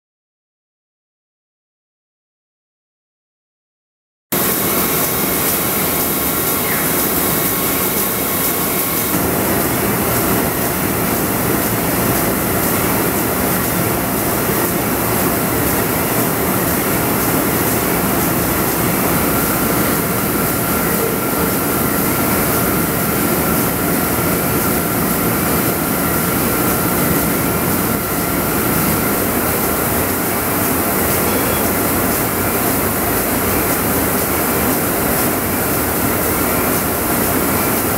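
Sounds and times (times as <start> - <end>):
printing press running: 4.4 - 37.9.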